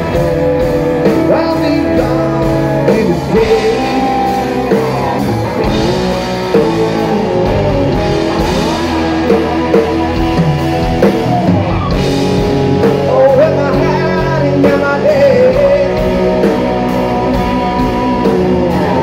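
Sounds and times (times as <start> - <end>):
man singing: 0.0 - 9.4, 12.8 - 19.0
bass guitar: 0.0 - 19.0
drums: 0.0 - 19.0
electric and acoustic guitars: 0.0 - 19.0.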